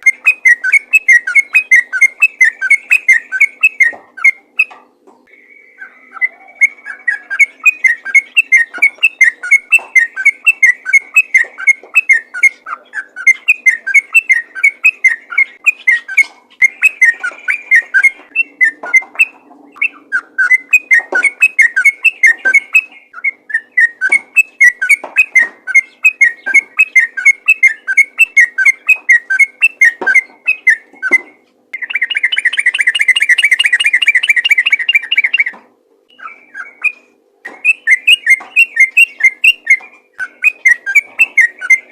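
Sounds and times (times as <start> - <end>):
bulbul singing: 0.0 - 41.9.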